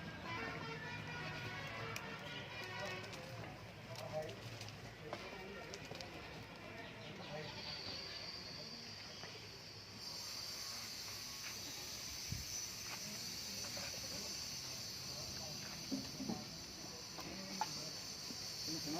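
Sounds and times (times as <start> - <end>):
insects droning: 0.0 - 18.9.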